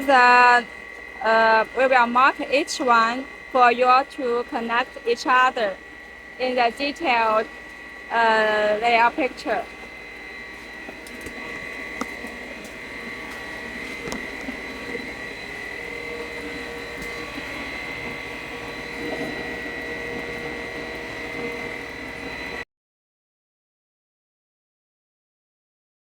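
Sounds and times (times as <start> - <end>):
machinery whine and hum: 0.0 - 22.7.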